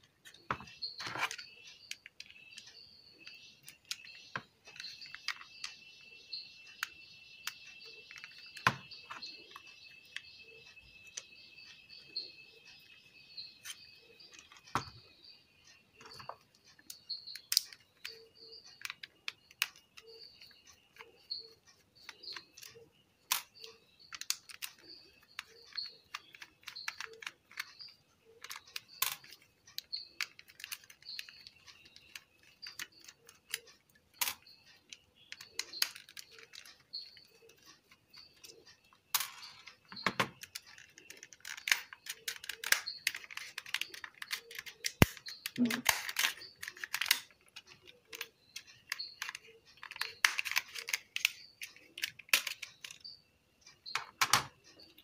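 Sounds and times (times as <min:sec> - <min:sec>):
faint high chirp: 0:00.0 - 0:55.0.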